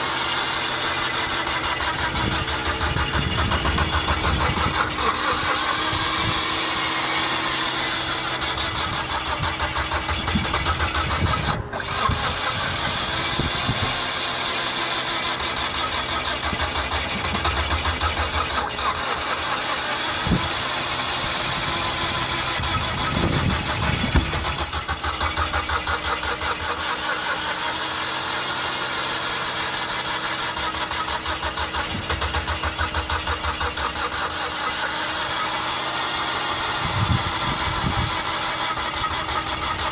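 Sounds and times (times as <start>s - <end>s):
engine starter cranking: 0.0s - 39.9s.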